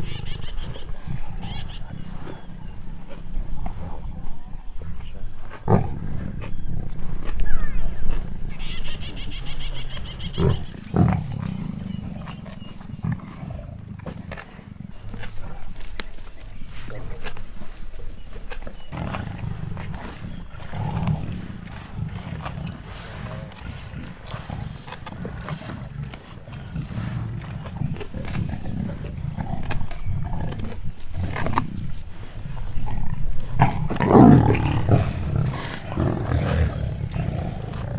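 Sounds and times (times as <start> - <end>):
lions growling: 0.0 - 37.9.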